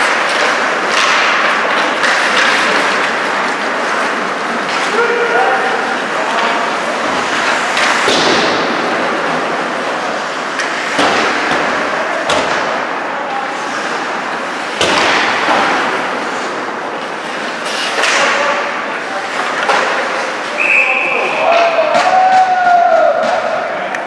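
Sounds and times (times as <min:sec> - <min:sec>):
hockey stick and puck cracks: 0:00.0 - 0:05.2, 0:05.9 - 0:13.0, 0:14.7 - 0:20.6, 0:21.4 - 0:24.0
skates scraping on ice: 0:00.0 - 0:23.9.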